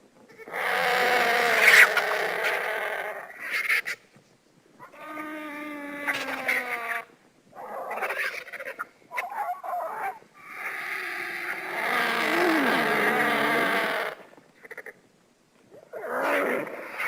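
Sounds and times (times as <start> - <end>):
vulture raspy calls: 0.4 - 4.0, 4.8 - 15.0, 15.8 - 17.0.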